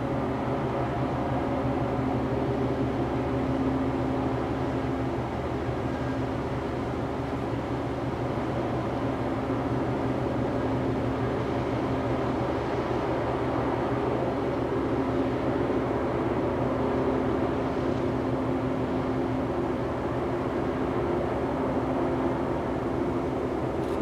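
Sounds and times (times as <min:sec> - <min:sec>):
ship engines droning: 0:00.0 - 0:24.0.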